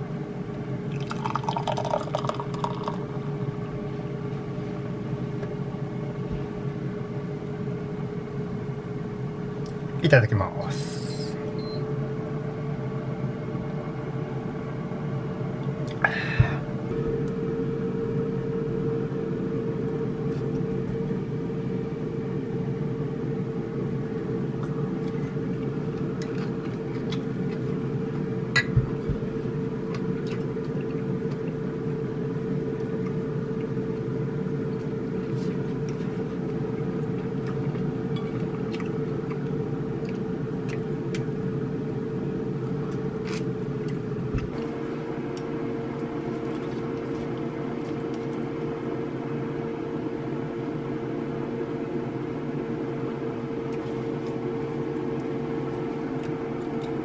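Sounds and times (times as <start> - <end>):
mechanical hum: 0.0 - 57.0.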